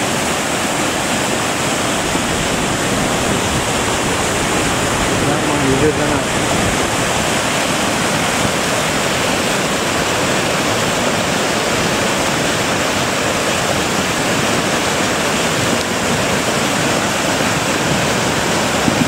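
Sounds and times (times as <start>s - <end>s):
mudflow roaring down a river: 0.0s - 19.0s.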